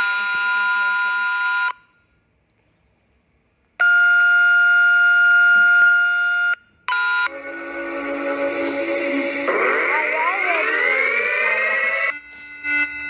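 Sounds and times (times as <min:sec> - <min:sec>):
sustained droning alarm: 0:00.0 - 0:02.0, 0:03.8 - 0:13.0.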